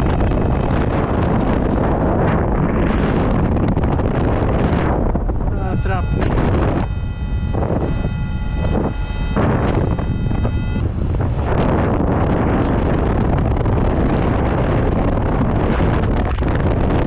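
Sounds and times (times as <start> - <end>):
steady electronic tone: 0.0 - 16.3
wind buffeting microphone: 0.0 - 17.0.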